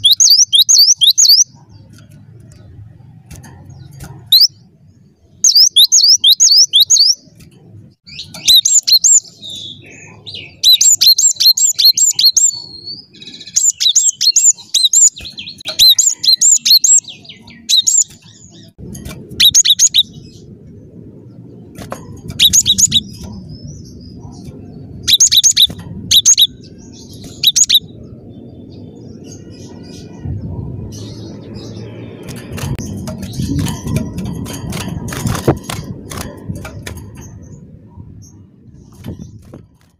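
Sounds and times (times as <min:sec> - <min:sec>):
bird singing high chirps: 0:00.0 - 0:02.7, 0:03.4 - 0:07.4, 0:08.0 - 0:18.8, 0:19.4 - 0:20.5, 0:22.3 - 0:36.2
low background rumble: 0:00.0 - 0:39.9.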